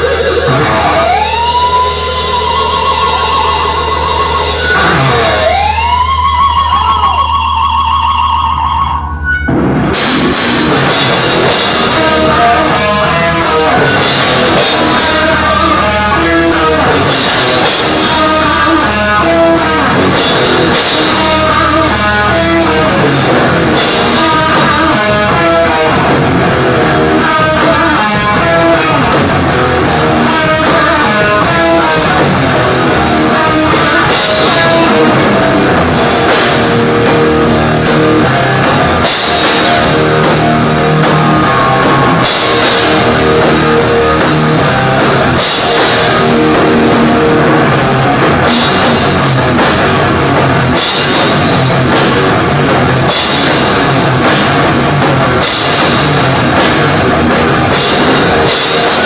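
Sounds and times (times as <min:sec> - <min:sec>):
distorted electric guitar riff: 0:00.0 - 0:59.0
rock drum kit: 0:00.0 - 0:59.0.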